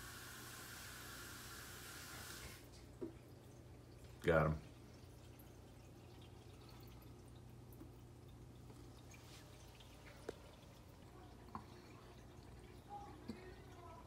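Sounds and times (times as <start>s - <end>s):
aquarium filter humming and trickling: 0.0s - 14.0s.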